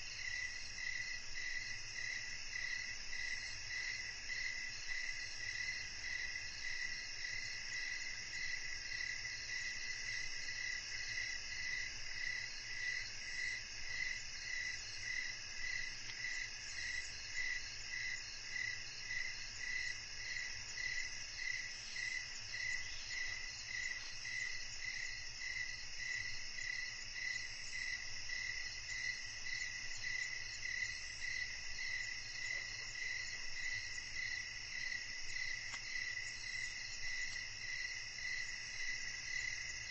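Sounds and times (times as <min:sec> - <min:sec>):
crickets and insects trilling: 0:00.0 - 0:39.9
pulsing insect trill: 0:00.1 - 0:39.9.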